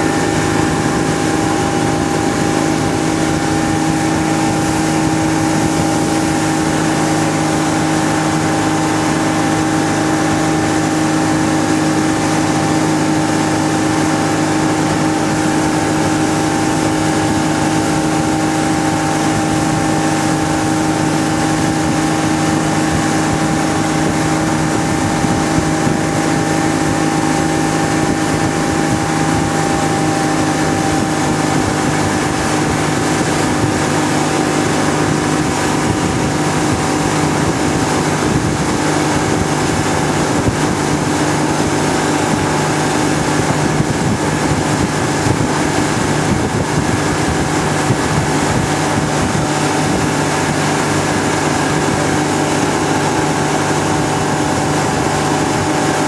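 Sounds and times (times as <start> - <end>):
motorboat engine running: 0.0 - 56.0
rush of boat wake: 0.0 - 56.0
wind noise on microphone: 0.0 - 56.0.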